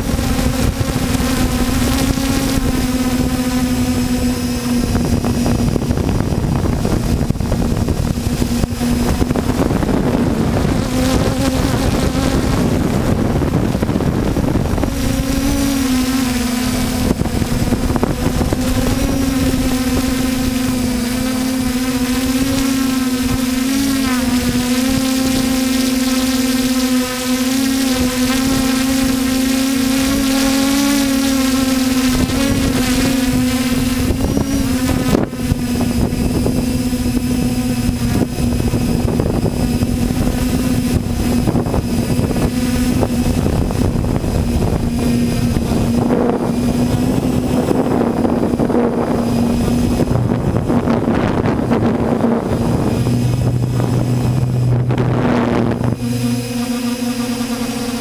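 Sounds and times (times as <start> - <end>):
drone motors humming: 0.0 - 58.0
wind rushing over microphone: 0.0 - 58.0.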